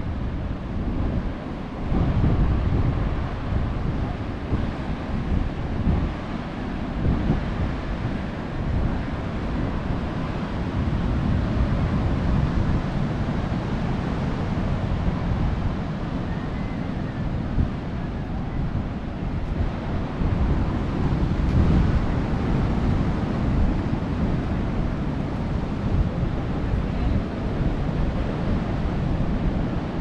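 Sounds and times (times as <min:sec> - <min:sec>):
ocean surf washing: 0:00.0 - 0:30.0
wind buffeting microphone: 0:00.0 - 0:30.0.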